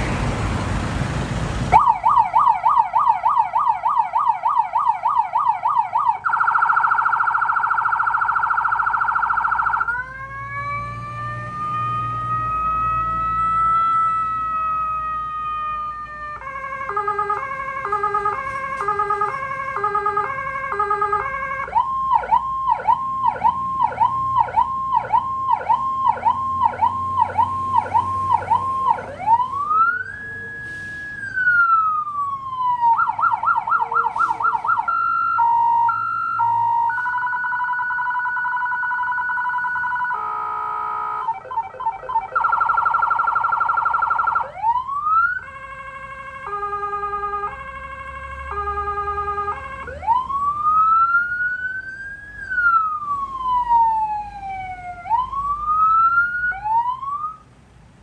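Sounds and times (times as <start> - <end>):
electronic emergency siren: 1.7 - 57.4.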